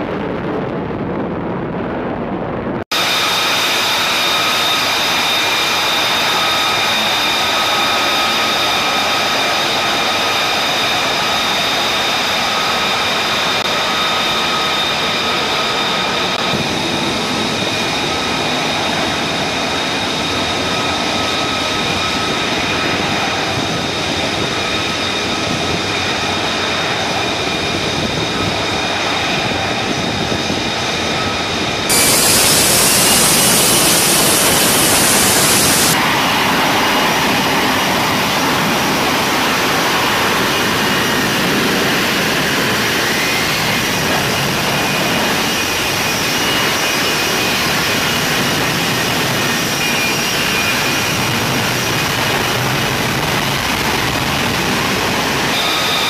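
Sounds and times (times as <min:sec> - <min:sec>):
jet engine roaring with whine: 0:00.0 - 0:56.0.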